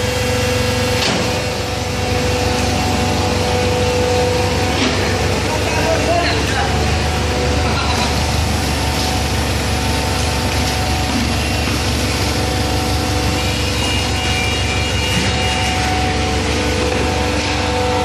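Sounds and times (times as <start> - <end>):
hydraulic baler machine drone: 0.0 - 18.0.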